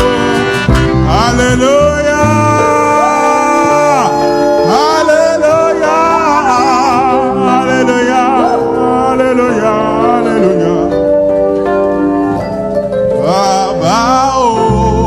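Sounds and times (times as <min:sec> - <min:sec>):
person singing: 0:00.0 - 0:11.9, 0:13.0 - 0:15.0
held keyboard chords: 0:00.0 - 0:15.0.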